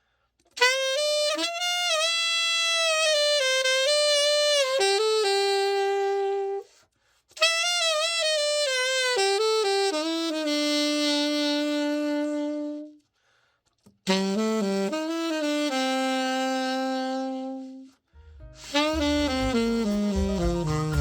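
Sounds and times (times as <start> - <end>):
solo alto saxophone melody: 0.5 - 6.8, 7.4 - 13.1, 14.0 - 21.0.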